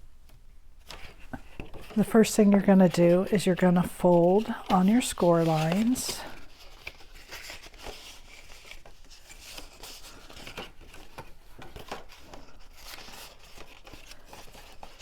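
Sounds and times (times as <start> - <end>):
cardstock being folded: 0.8 - 15.0
paper rustles and clicks: 0.8 - 15.0.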